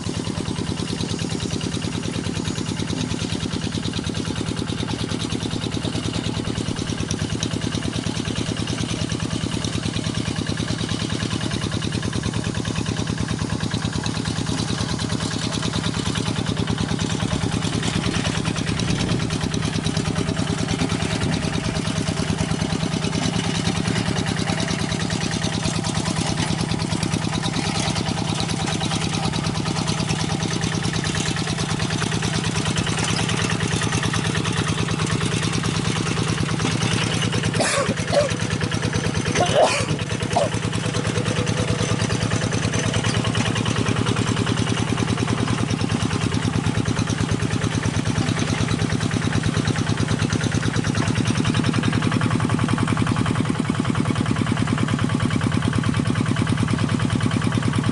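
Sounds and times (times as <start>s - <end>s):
diesel tractor engine idling: 0.0s - 57.9s.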